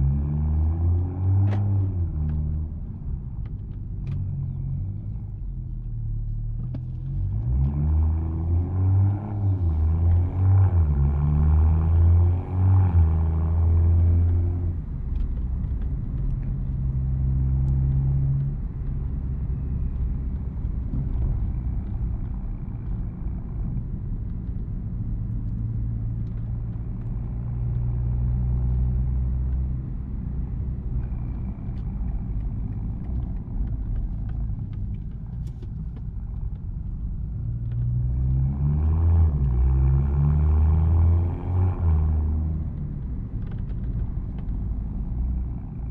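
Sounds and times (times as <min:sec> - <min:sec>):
car exhaust under load: 0:01.0 - 0:45.9.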